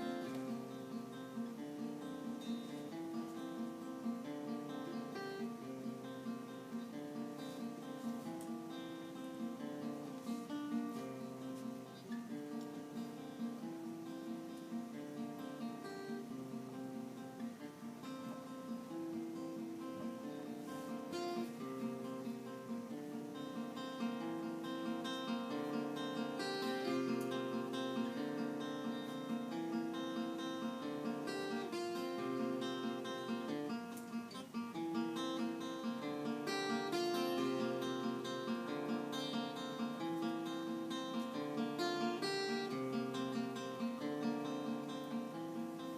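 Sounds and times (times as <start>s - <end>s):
strummed acoustic guitar: 0.0s - 45.9s.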